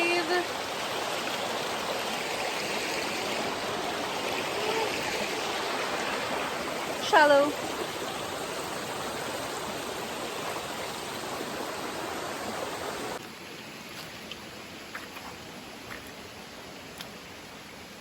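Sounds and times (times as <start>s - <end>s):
river water running over rocks: 0.0s - 18.0s.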